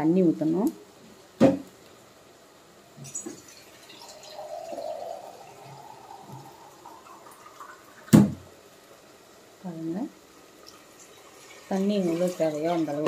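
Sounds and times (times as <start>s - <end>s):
faint hum: 0.0s - 11.2s.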